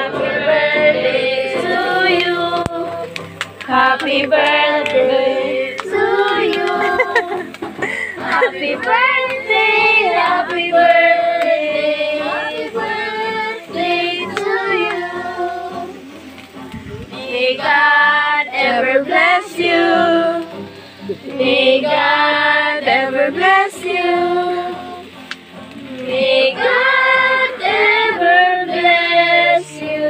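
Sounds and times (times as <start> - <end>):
group of voices singing together: 0.0 - 30.0.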